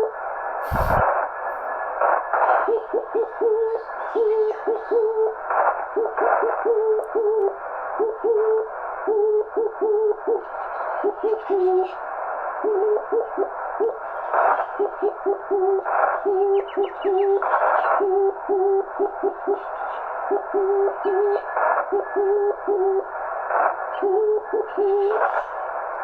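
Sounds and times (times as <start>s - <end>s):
radio band hiss: 0.0s - 26.0s.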